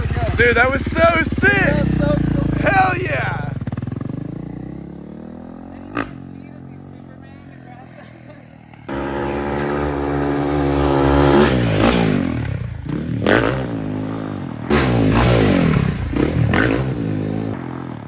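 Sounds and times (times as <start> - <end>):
dirt bike engine revving: 0.0 - 7.6, 8.5 - 18.0.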